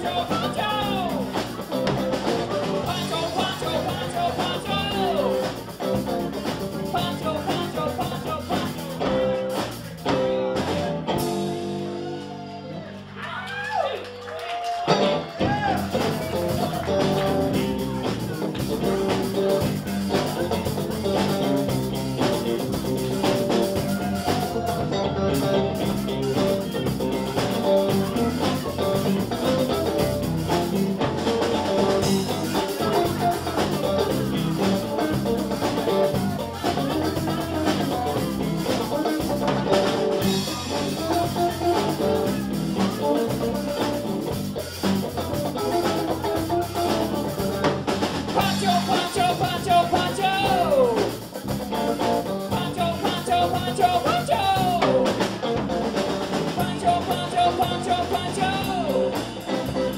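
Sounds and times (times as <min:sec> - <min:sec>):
drum kit beat: 0:00.0 - 0:12.5, 0:14.6 - 0:59.9
electric guitar: 0:00.0 - 0:59.9.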